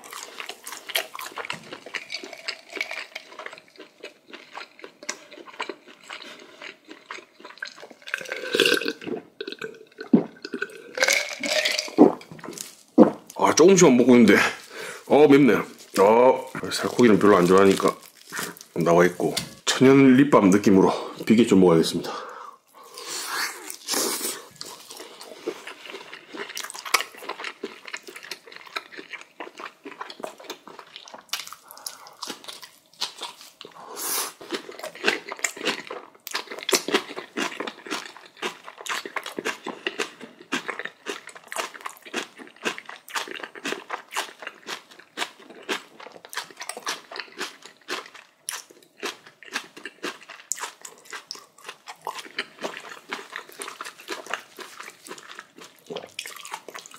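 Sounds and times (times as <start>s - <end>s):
person chewing and crunching: 0.0s - 19.8s, 22.7s - 56.9s.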